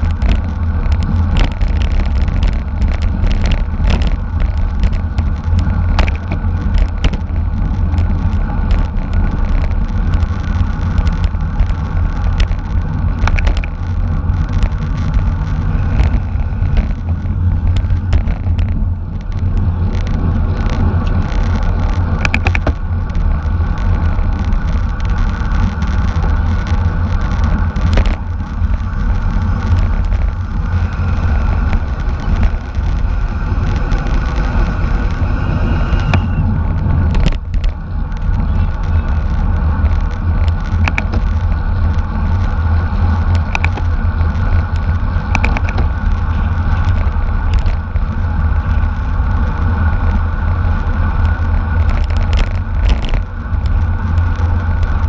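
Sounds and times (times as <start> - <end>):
scattered clicks: 0.0 - 50.2, 51.2 - 55.0
road and drivetrain noise: 0.0 - 55.0
wind rush over microphone: 0.0 - 55.0.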